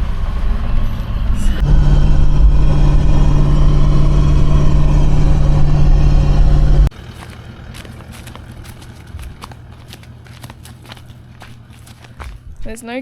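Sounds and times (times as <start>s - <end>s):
car engine and road noise: 0.0s - 12.7s.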